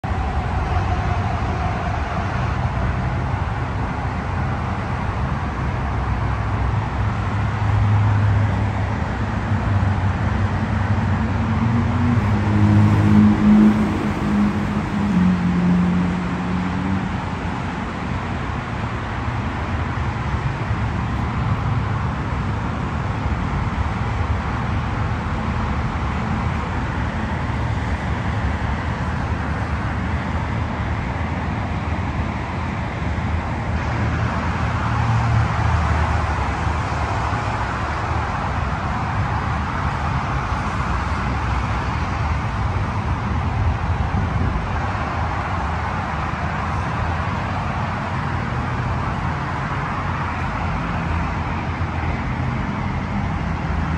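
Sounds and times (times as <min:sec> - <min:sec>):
road traffic noise: 0:00.0 - 0:53.9
vehicle engine running close by: 0:00.0 - 0:53.9.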